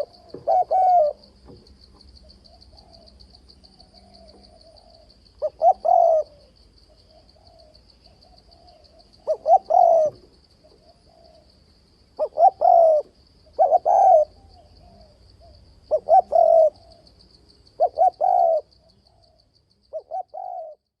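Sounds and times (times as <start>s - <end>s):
dove cooing: 0.0s - 1.6s, 2.2s - 11.5s, 12.2s - 17.1s, 17.8s - 21.0s
high insect trill: 0.0s - 20.9s.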